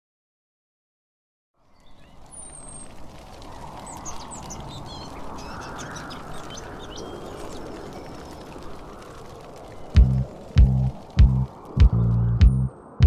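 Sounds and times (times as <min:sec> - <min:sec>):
small birds chirping: 0:01.6 - 0:12.7.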